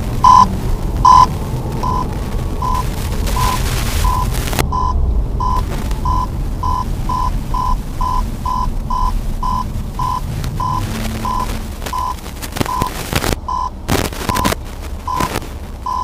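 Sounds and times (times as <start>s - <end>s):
car low rumble: 0.0s - 16.0s
car warning beeps: 0.2s - 16.0s.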